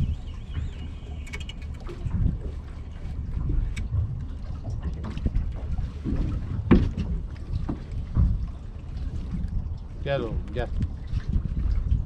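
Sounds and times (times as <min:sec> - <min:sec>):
low steady rumble: 0:00.0 - 0:12.0
wind buffeting microphone: 0:00.0 - 0:12.0.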